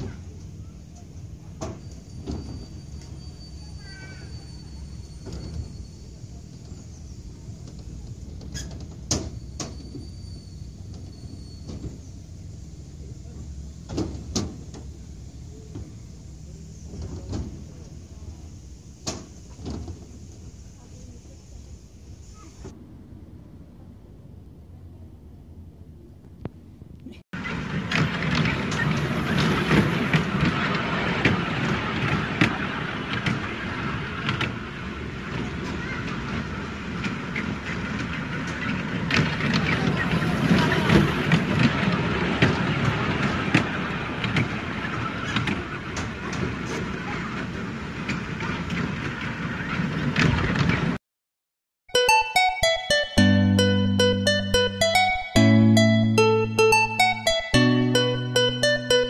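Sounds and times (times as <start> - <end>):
carousel platform rumble: 0.0 - 51.0, 51.9 - 59.0.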